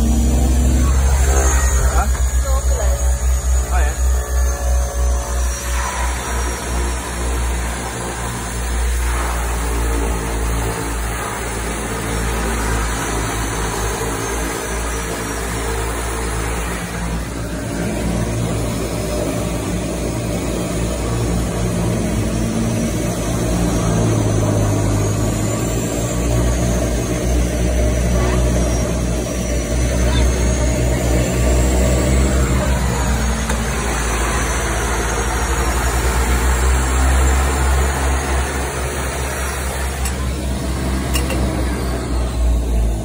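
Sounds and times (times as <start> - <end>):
faint high whine: 0.0 - 43.0
propeller engines droning: 0.0 - 43.0.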